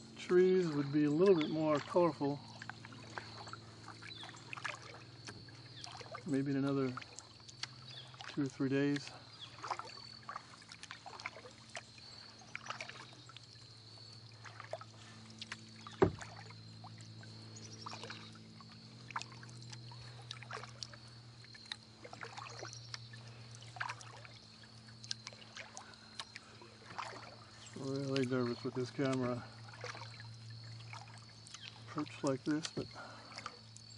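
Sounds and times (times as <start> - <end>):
paddle strokes splashing water: 0.0 - 33.9.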